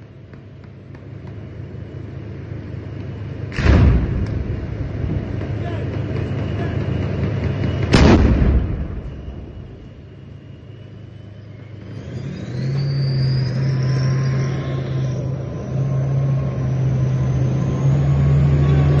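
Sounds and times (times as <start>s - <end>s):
high engine whine: 0.0s - 19.0s
tank engine revving: 0.0s - 19.0s.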